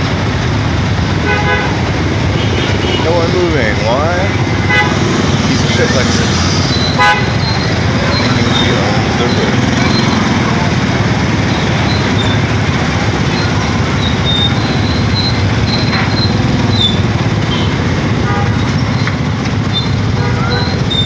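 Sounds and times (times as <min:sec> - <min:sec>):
hum of other motorbikes: 0:00.0 - 0:21.0.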